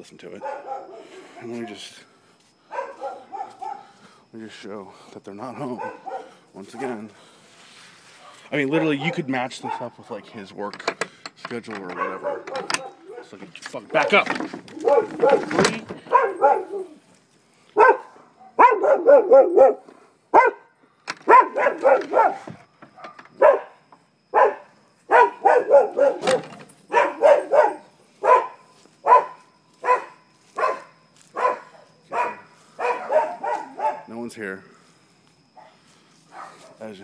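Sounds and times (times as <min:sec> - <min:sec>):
dogs barking: 0:00.2 - 0:01.9, 0:02.7 - 0:04.0, 0:05.6 - 0:07.1, 0:08.2 - 0:10.5, 0:11.8 - 0:17.0, 0:17.8 - 0:34.2, 0:35.6 - 0:36.9.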